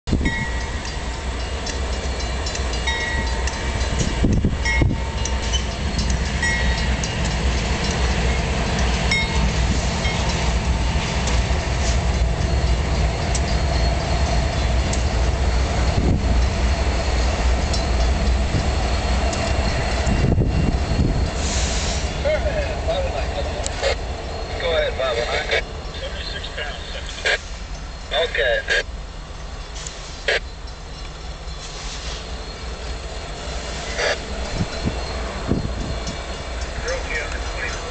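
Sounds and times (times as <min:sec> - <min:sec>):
locomotive engine rumble: 0:00.0 - 0:37.9
train wheels clattering on rails: 0:00.1 - 0:37.9.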